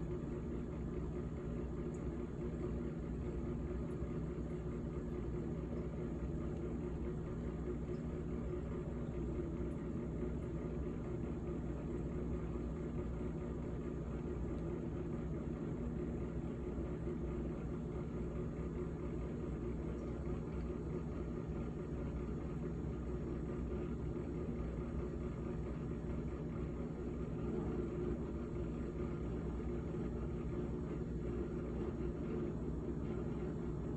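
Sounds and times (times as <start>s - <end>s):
refrigerator humming: 0.0s - 33.9s.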